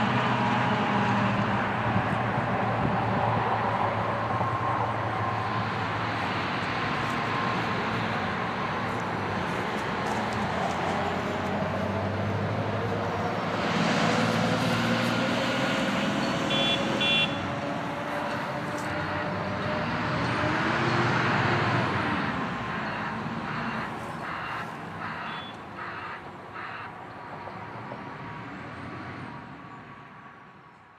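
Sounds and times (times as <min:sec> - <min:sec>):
highway traffic passing: 0:00.0 - 0:30.9.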